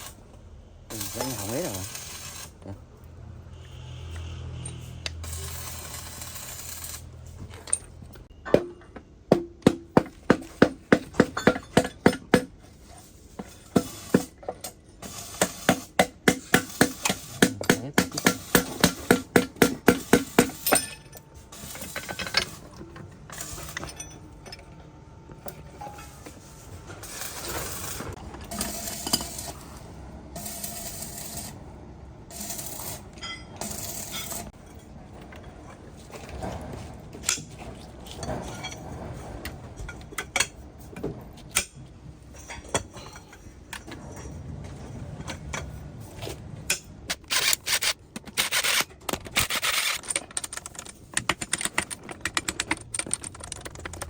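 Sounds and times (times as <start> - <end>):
metal parts scraping and clinking: 0.9 - 2.6, 3.7 - 8.6, 11.1 - 31.6, 32.3 - 40.6, 42.3 - 54.0.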